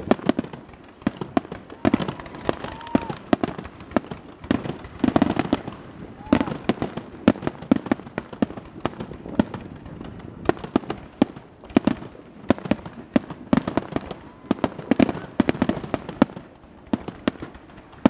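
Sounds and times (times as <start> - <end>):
fireworks crackle: 0.0 - 18.0.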